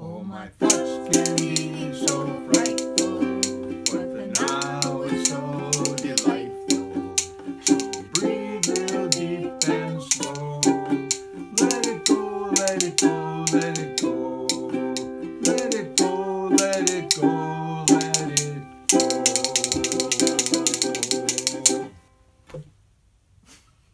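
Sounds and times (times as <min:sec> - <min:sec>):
man and woman singing: 0:00.0 - 0:21.9
rhythm bones clicking: 0:00.6 - 0:21.9
ukulele strumming: 0:00.6 - 0:22.1.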